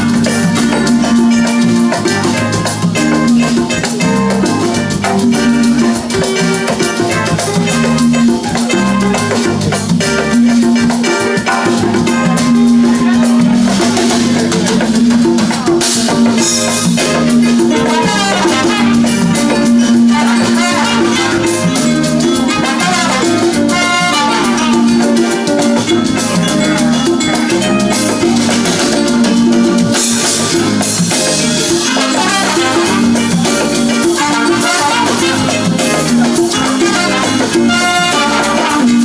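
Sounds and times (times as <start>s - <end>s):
drum kit groove: 0.0s - 39.0s
live band playing: 0.0s - 39.0s.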